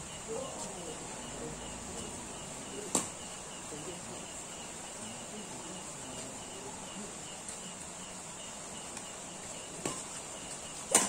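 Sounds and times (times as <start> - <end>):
cricket chirps: 0.0 - 11.0
high insect drone: 0.0 - 11.0.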